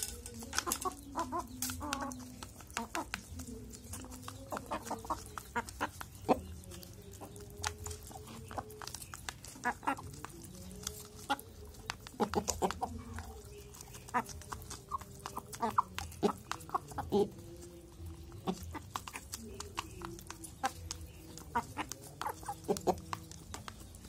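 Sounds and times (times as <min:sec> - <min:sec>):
beaks clicking on plastic cup: 0:00.0 - 0:24.0
soft chicken calls: 0:00.0 - 0:24.0.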